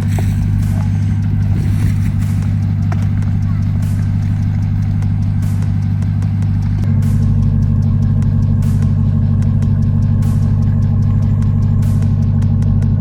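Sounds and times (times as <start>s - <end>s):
truck engine running low: 0.0s - 13.0s.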